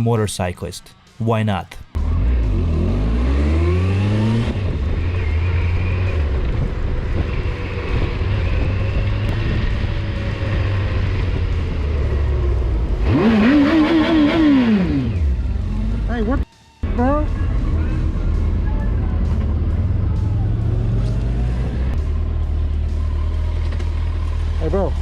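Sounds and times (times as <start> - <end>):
motorcycle engine accelerating: 2.0 - 25.0.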